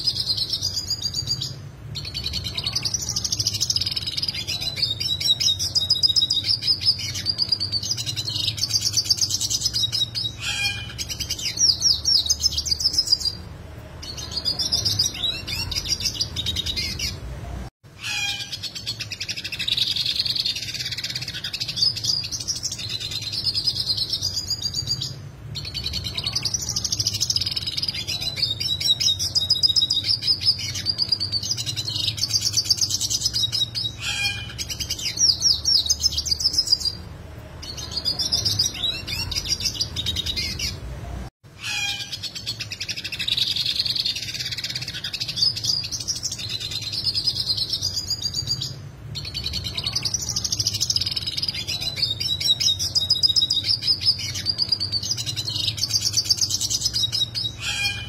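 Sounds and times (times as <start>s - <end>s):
bird twittering song: 0.0s - 17.2s, 18.0s - 40.8s, 41.6s - 58.0s.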